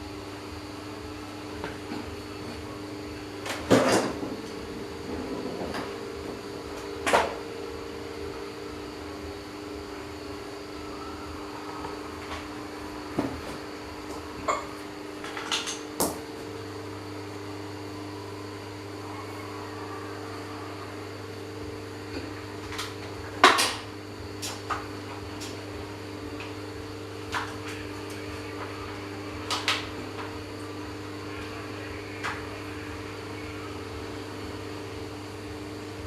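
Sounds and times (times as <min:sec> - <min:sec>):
electric fan motor humming: 0:00.0 - 0:36.0.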